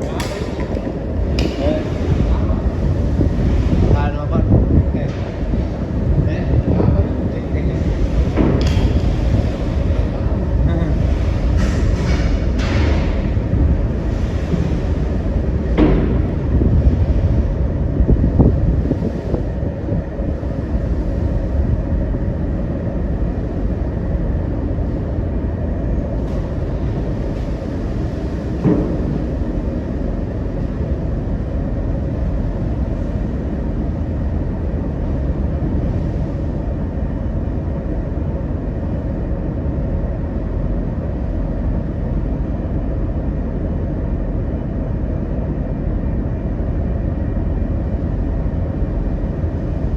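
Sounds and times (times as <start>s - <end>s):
ferry engine rumble: 0.0s - 49.9s.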